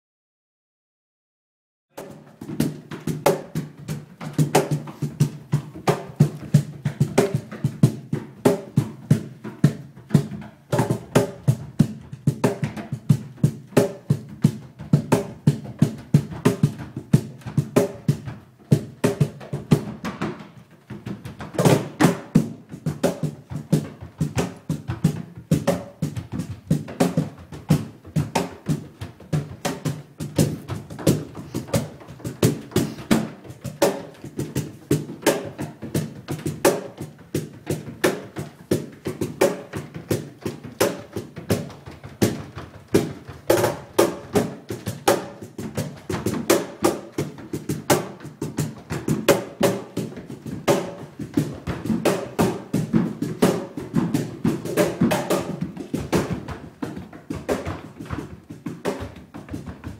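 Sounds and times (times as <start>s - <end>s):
drum kit playing: 2.0s - 20.0s, 21.5s - 59.9s
tap shoes striking floor: 2.0s - 59.9s.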